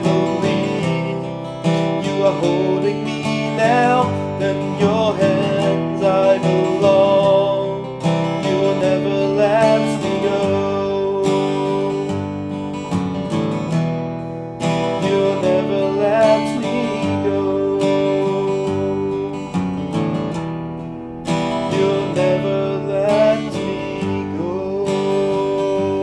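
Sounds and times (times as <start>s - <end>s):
man singing: 0.0s - 13.4s, 14.6s - 20.4s, 21.2s - 26.0s
acoustic guitar strummed and picked: 0.0s - 26.0s.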